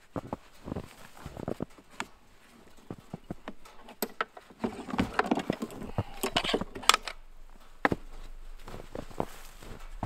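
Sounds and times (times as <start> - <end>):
chainsaw knocking and scraping: 0.2 - 10.0.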